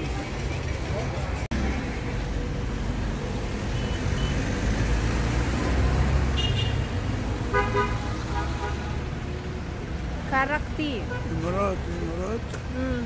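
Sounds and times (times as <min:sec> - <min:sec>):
traffic rumbling past: 0:00.0 - 0:12.8.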